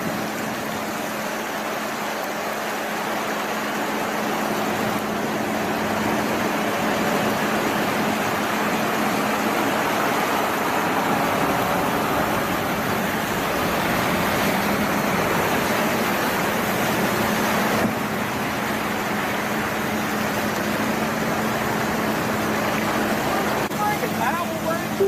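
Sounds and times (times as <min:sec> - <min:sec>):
low engine drone: 0:00.0 - 0:25.0
vehicle road noise: 0:00.0 - 0:25.0.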